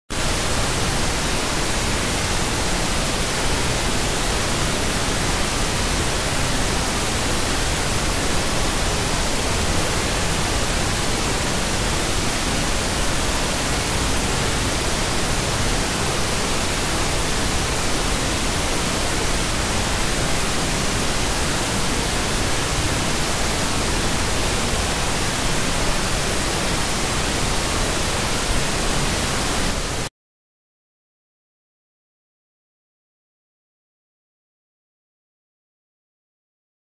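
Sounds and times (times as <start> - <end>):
white noise hiss: 0.2 - 30.1.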